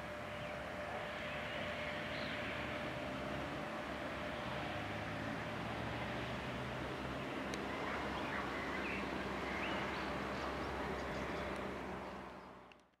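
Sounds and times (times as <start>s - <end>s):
diesel railcar engine: 0.0s - 12.8s.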